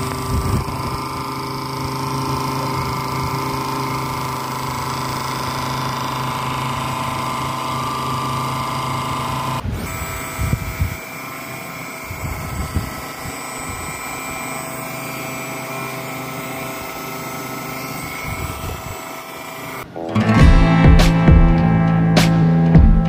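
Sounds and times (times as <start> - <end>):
electric motors whining: 0.0 - 20.4.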